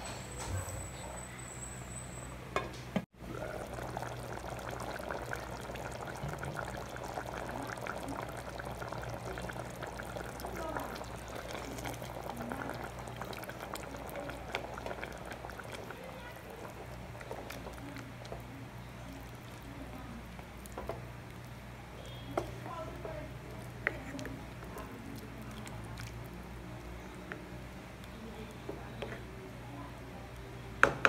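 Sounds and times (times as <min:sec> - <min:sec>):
stew bubbling in a pot: 0:03.2 - 0:31.0
wooden spatula stirring: 0:03.4 - 0:29.4.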